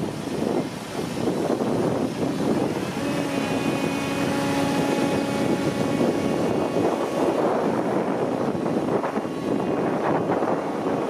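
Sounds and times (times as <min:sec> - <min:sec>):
diesel engines running: 0:01.9 - 0:11.0
steady humming tone: 0:02.0 - 0:11.0.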